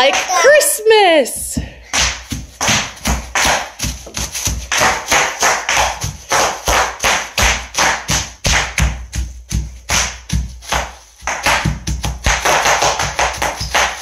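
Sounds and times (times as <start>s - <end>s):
stomping feet thuds: 1.2s - 14.0s.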